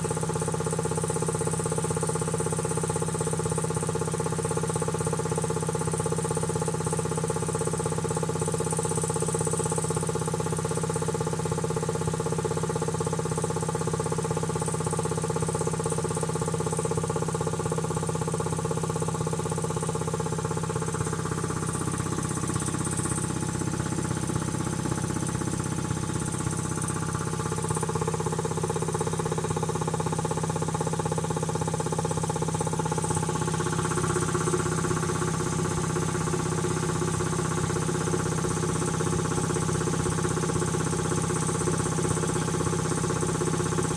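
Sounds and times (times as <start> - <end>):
air compressor running: 0.0 - 43.9.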